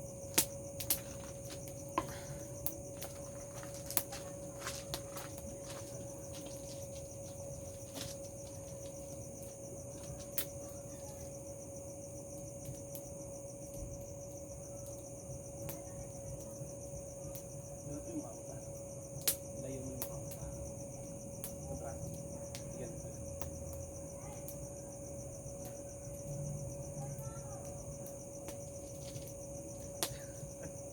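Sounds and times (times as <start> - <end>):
crickets trilling: 0.0 - 30.9
low insect tone: 0.0 - 30.9.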